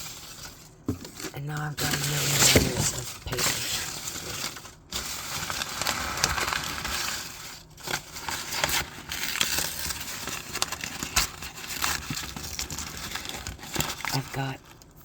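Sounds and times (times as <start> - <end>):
paper being crumpled: 0.0 - 15.0.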